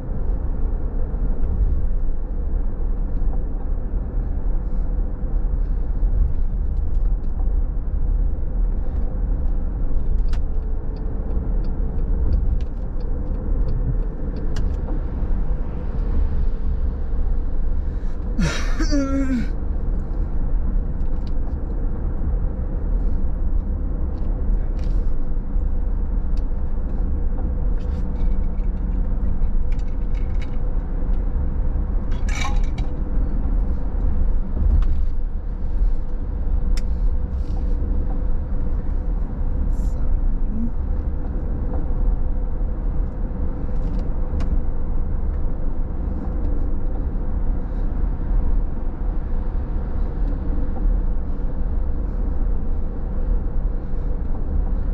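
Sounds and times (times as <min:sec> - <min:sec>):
car road noise rumble: 0:00.0 - 0:54.9
constant hum: 0:00.0 - 0:54.9.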